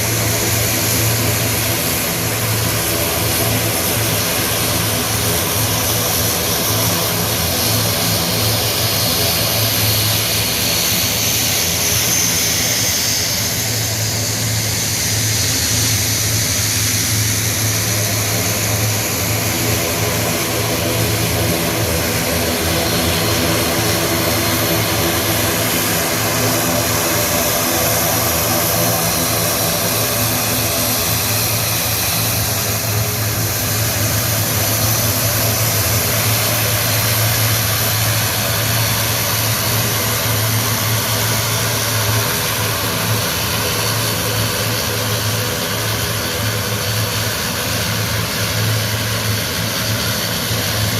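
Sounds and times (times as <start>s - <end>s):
propeller aircraft flying over: 0.0s - 50.9s.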